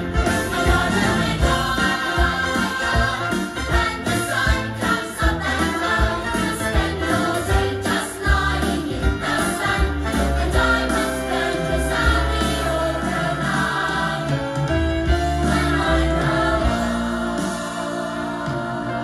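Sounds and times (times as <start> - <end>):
choir singing over instruments: 0.0 - 19.0.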